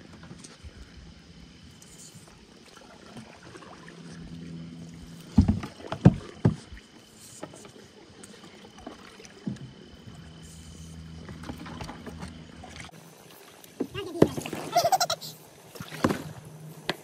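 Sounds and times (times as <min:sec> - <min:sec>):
water around paddle and hull: 0:00.0 - 0:17.0.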